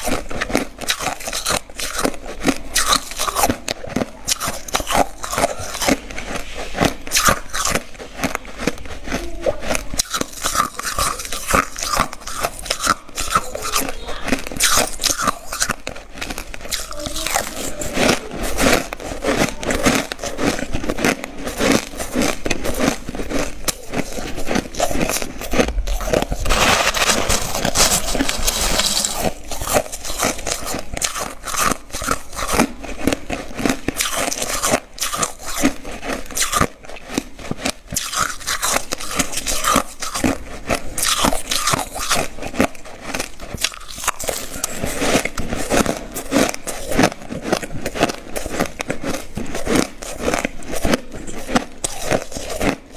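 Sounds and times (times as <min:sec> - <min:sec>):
ice being chewed: 0:00.0 - 0:52.9.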